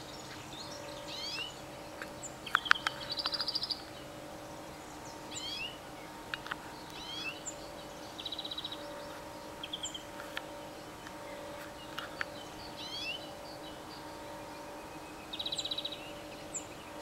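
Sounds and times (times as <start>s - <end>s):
bird trill: 0.0s - 17.0s
faint steady hum: 0.0s - 17.0s
small birds chirping: 0.0s - 17.0s.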